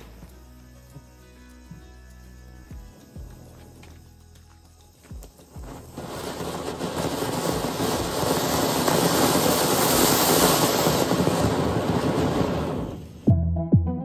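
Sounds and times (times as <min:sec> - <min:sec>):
firework hissing and crackling: 0:00.0 - 0:13.3.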